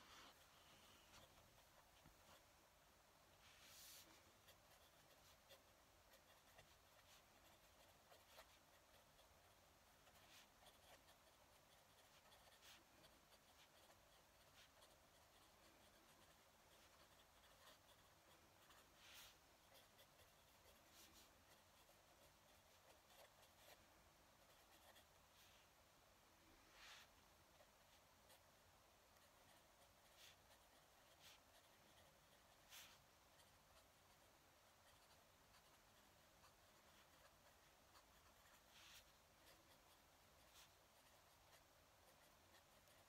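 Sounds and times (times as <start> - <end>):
pen nib scratching on paper: 3.4 - 25.8, 26.8 - 43.0.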